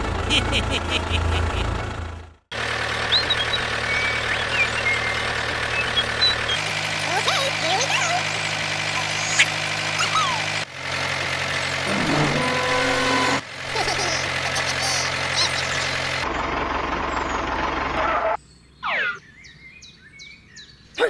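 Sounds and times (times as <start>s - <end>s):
tractor engine running: 0.0s - 18.4s.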